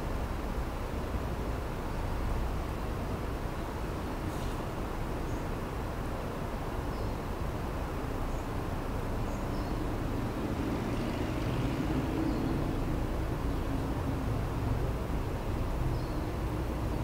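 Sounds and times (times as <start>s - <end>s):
traffic rumble: 0.0s - 17.0s
vehicle hum: 0.0s - 17.0s.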